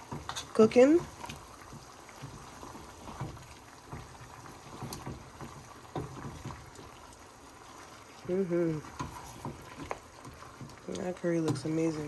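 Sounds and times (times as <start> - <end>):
pot of food bubbling: 0.0 - 12.0.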